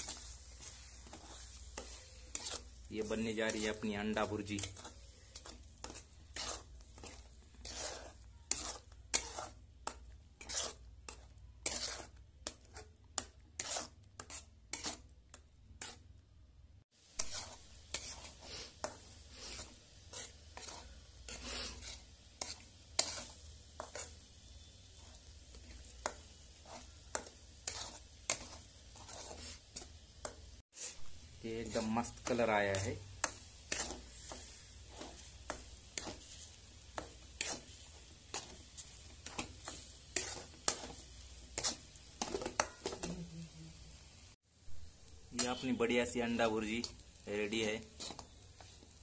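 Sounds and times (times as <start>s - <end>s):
spatula scraping a pan: 0.0s - 16.1s, 17.0s - 43.3s, 45.2s - 49.0s
low sizzle: 0.0s - 49.0s.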